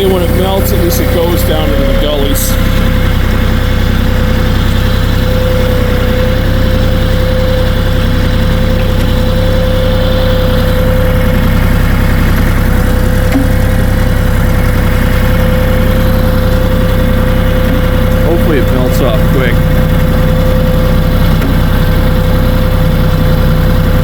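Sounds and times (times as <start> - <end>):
constant whine: 0.0 - 24.0
tractor engine running: 0.0 - 24.0.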